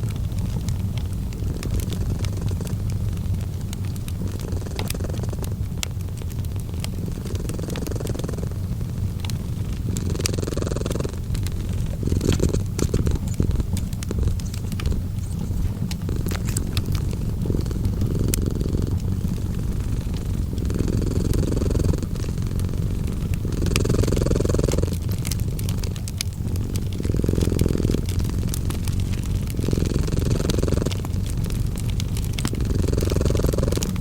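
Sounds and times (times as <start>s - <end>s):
cat purring: 0.0s - 34.0s
fireplace crackling: 0.0s - 34.0s.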